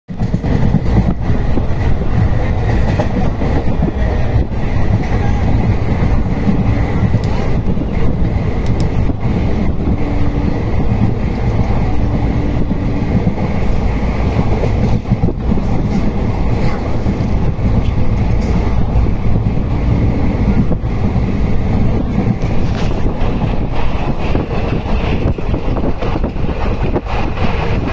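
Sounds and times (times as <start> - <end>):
train wheels rumbling on track: 0.1 - 27.9.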